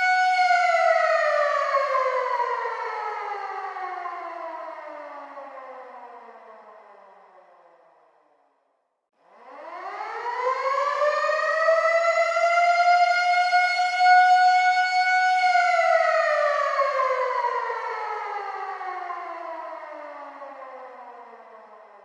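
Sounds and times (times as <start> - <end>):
air raid siren wailing: 0.0 - 7.7, 9.3 - 22.0.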